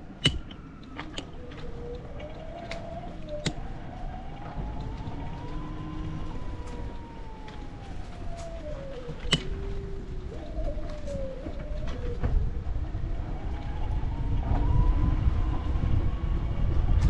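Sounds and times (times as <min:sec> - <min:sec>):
distant siren wailing: 0:00.0 - 0:17.0.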